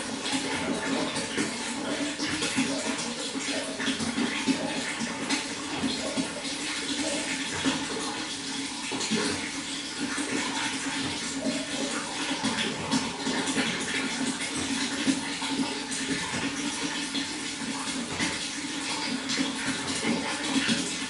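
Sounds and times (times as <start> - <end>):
running water flowing: 0.0 - 21.0
small water splashes: 0.0 - 21.0.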